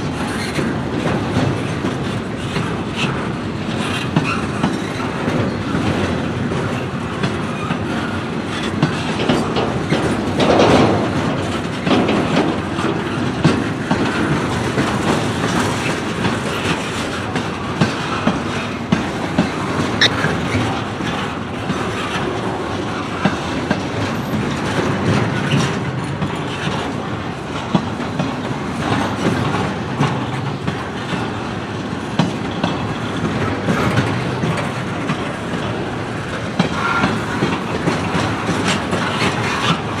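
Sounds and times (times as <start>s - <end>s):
freight train cars rolling: 0.0s - 40.0s
wheels clicking over rail joints: 0.0s - 40.0s.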